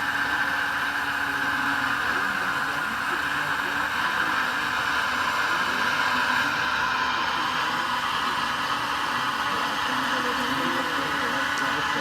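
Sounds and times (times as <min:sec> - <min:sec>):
small electric motors whirring: 0:00.0 - 0:12.0.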